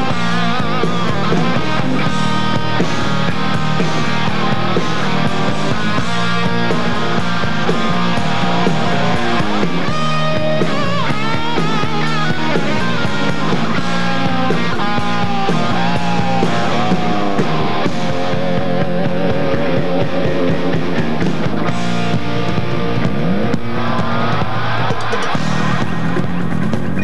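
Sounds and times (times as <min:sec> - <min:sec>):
rock music with guitar: 0:00.0 - 0:27.0.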